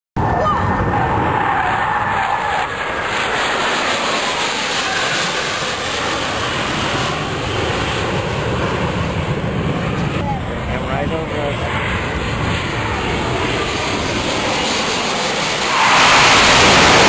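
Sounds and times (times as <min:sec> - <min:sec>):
jets flying past: 0:00.2 - 0:17.0.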